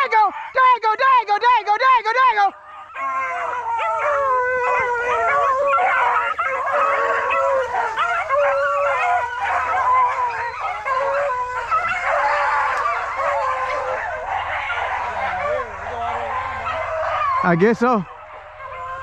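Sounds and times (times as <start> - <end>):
pack of hounds baying: 0.0 - 19.0.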